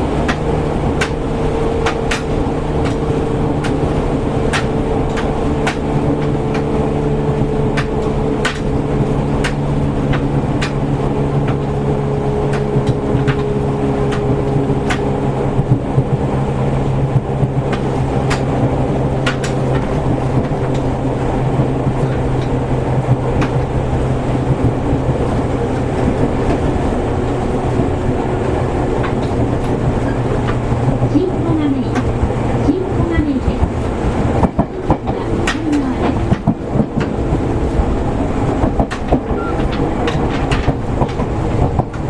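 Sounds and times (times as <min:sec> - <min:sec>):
rail joint clicks: 0:00.0 - 0:42.0
train motor hum: 0:00.0 - 0:42.0
wheels rumbling on rails: 0:00.0 - 0:42.0.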